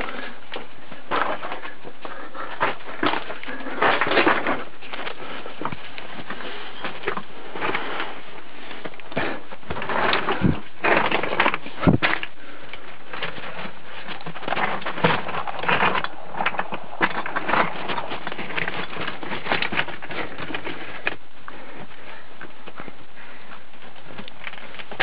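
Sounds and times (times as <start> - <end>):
footsteps crunching on stone: 0.0 - 25.0
microphone handling rustle: 0.0 - 25.0.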